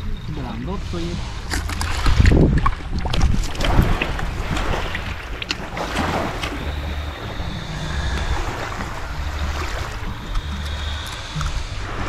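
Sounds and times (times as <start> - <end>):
waves washing on beach: 0.0 - 12.0
wind rumbling on microphone: 0.0 - 12.0.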